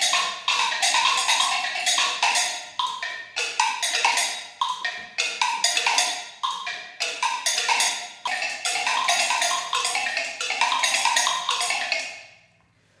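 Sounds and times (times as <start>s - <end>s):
robotic percussion on wood blocks: 0.0s - 12.4s.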